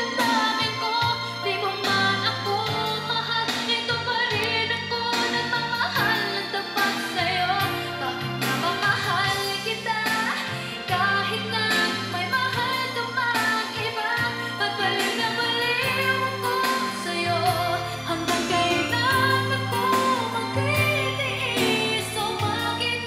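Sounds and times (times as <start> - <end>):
song over speakers: 0.0 - 23.0.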